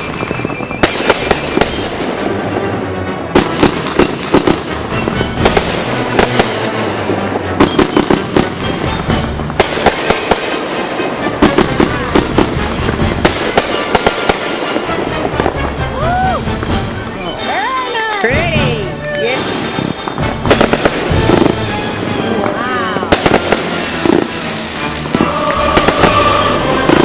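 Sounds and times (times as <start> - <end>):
fireworks bangs: 0.0 - 27.0
fireworks crackle: 0.0 - 27.0.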